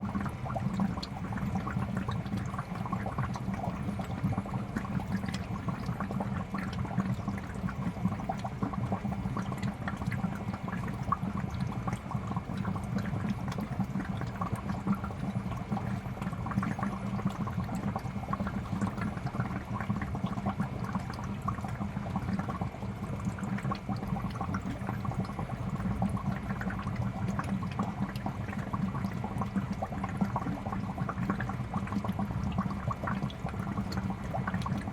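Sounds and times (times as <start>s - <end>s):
bubbles popping in fish tank: 0.0s - 34.9s
constant low hum: 0.0s - 34.9s.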